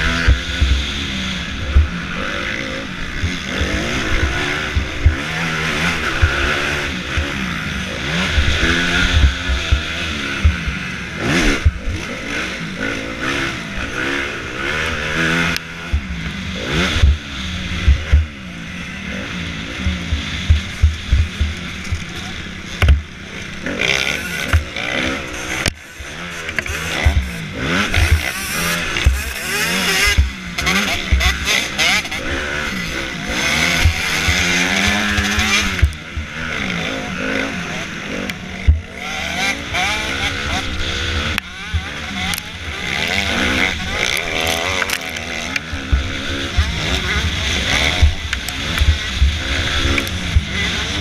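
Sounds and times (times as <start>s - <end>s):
low thumps over rough track: 0.0s - 51.0s
motocross bike engine revving: 0.0s - 51.0s
noisy rush: 0.0s - 51.0s.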